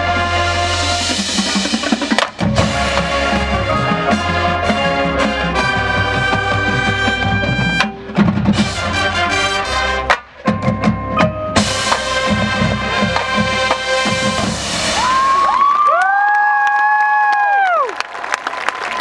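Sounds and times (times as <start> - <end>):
cymbals: 0.0 - 15.4
marching band brass chords: 0.0 - 15.4
drumline percussion: 0.0 - 16.2.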